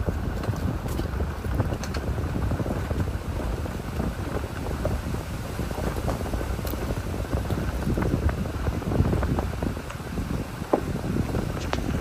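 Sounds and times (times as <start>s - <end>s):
small crackles and ticks: 0.0s - 12.0s
wind buffeting microphone: 0.0s - 12.0s.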